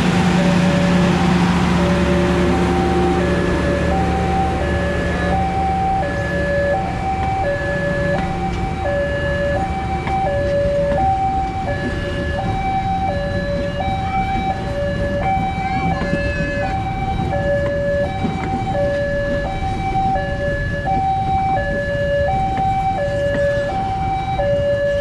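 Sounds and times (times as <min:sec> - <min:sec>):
train coaches rumbling past: 0:00.0 - 0:25.0
level crossing alarm two-tone: 0:00.2 - 0:25.0.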